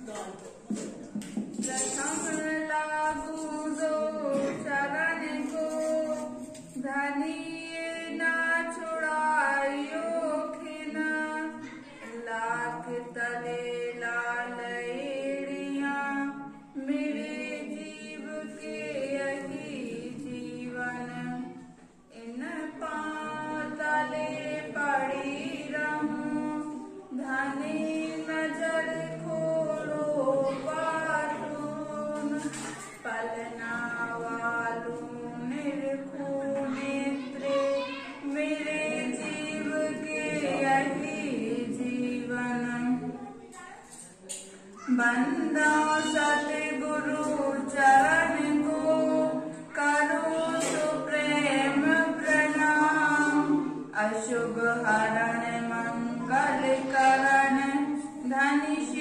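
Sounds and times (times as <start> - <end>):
women singing unaccompanied: 1.5 - 43.3, 44.8 - 59.0.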